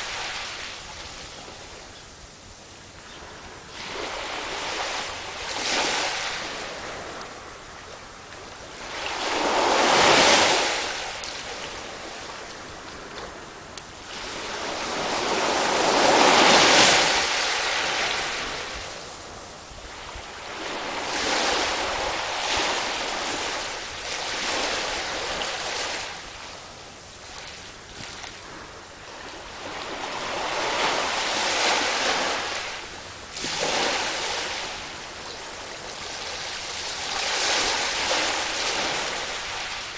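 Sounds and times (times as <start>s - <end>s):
sea waves washing in: 3.4s - 39.9s.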